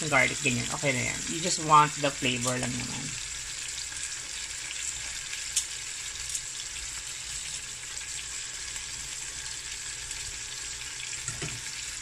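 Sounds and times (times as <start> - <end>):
steaks sizzling in a pan: 0.0 - 12.0.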